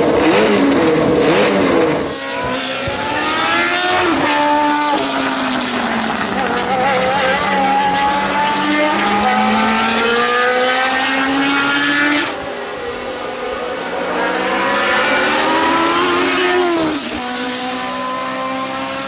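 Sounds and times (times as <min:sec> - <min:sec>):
racing engine accelerating: 0:00.0 - 0:19.0.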